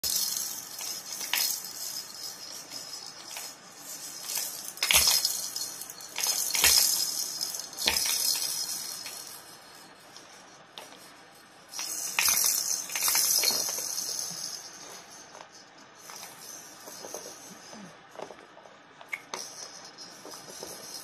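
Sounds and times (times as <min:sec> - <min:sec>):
plastic rattle toy rattling: 0:00.0 - 0:11.1, 0:11.7 - 0:21.0.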